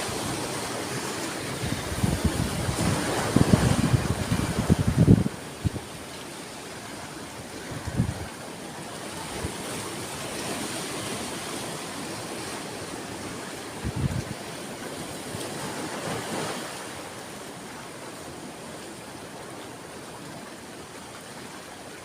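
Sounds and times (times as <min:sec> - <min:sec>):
sea waves surging: 0:00.0 - 0:22.0.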